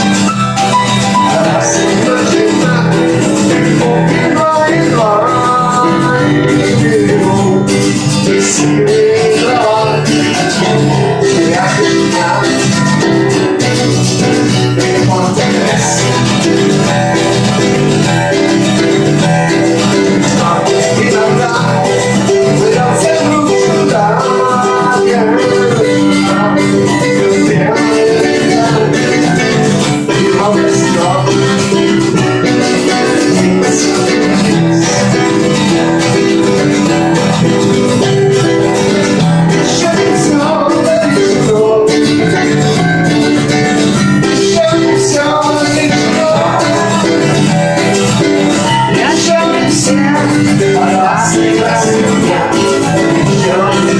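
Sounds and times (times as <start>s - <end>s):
acoustic guitar song: 0.0s - 53.9s.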